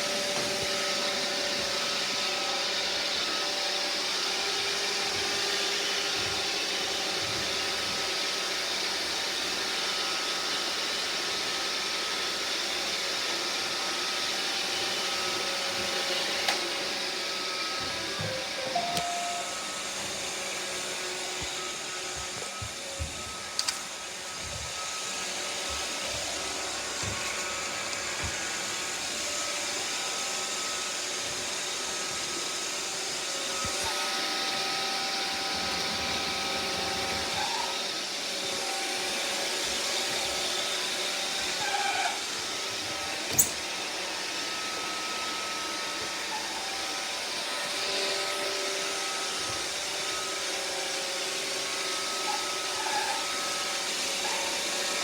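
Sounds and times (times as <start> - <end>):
robot vacuum whirring: 0.0 - 55.0.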